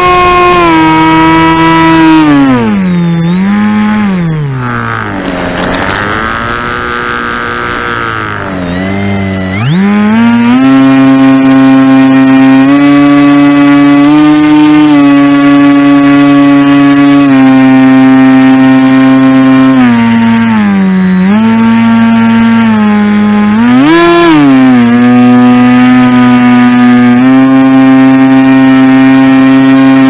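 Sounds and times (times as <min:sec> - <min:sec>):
model airplane motor whining: 0:00.0 - 0:30.0.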